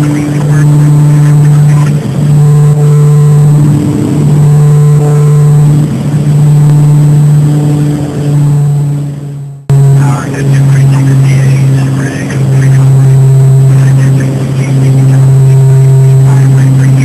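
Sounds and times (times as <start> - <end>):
propeller airplane engines droning: 0.0 - 17.0.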